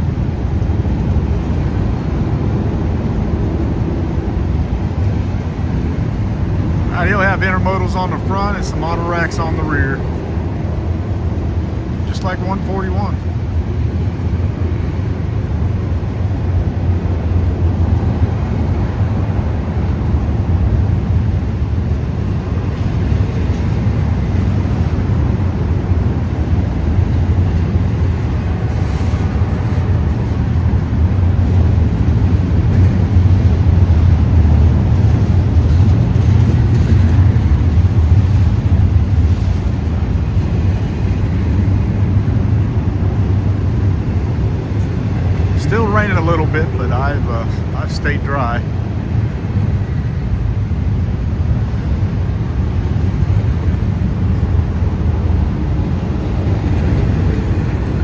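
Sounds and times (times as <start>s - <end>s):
freight train rumbling on rails: 0.0s - 58.0s.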